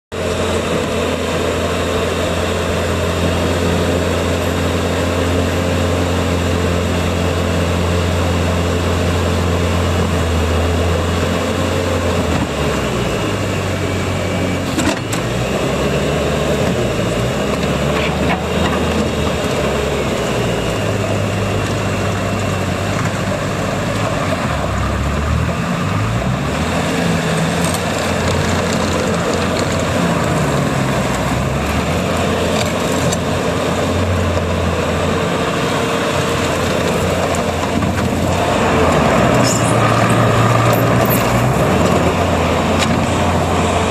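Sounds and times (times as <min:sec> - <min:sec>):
diesel engine revving: 0:00.1 - 0:43.9.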